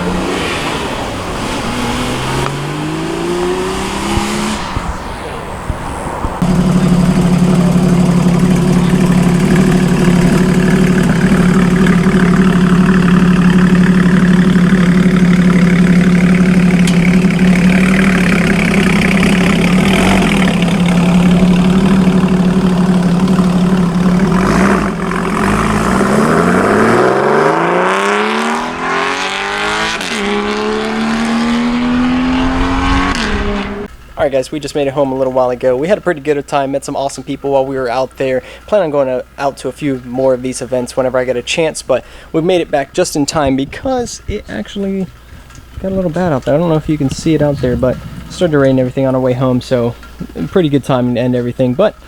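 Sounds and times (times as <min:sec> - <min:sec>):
car engine accelerating: 0:00.0 - 0:36.4, 0:39.2 - 0:52.0.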